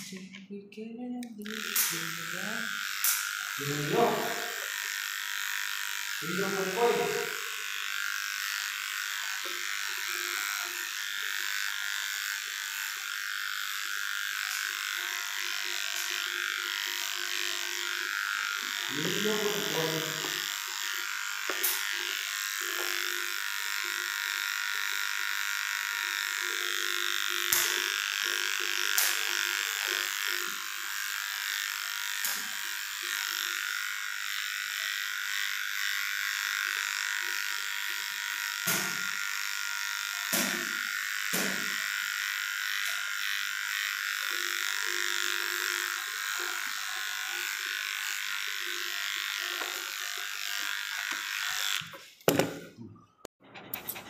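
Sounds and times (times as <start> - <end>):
electric clippers buzzing: 0.0 - 52.8.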